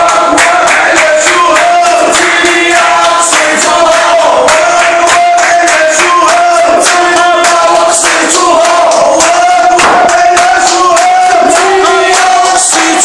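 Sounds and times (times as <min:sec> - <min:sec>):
crowd chanting in unison: 0:00.0 - 0:13.0.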